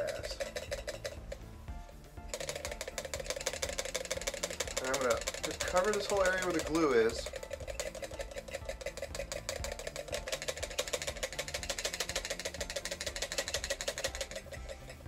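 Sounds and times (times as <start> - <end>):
applicator ticking buzz: 0.0 - 15.0.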